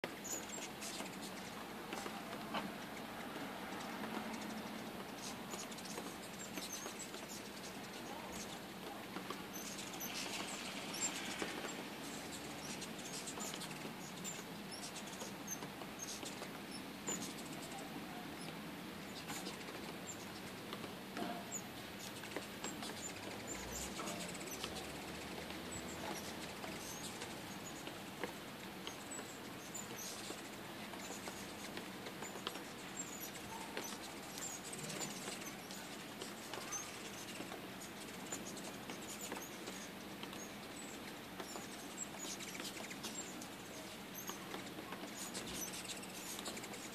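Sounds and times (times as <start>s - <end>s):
small ticks: 0.0s - 17.8s, 18.4s - 46.9s
hummingbird wing hum: 0.0s - 46.9s
hummingbird chips and twitters: 0.1s - 3.1s, 3.7s - 18.5s, 19.1s - 20.6s, 21.2s - 28.2s, 28.8s - 46.9s.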